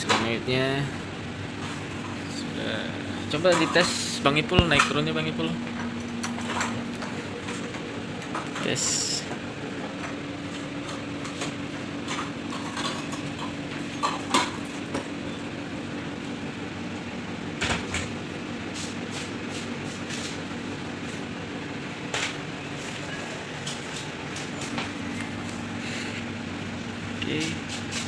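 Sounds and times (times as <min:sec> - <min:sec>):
hydraulic pump motor humming: 0:00.0 - 0:28.0.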